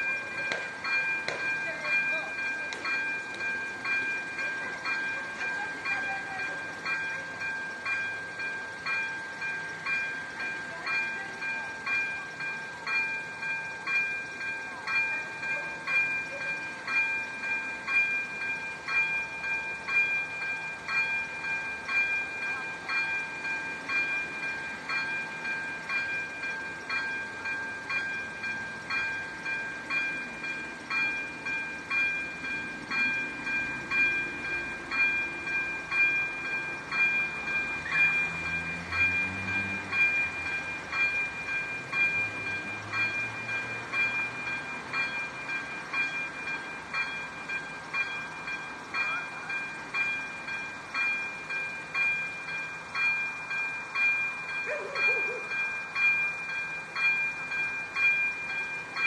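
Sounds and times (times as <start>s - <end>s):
level crossing bell ringing: 0.0s - 59.0s.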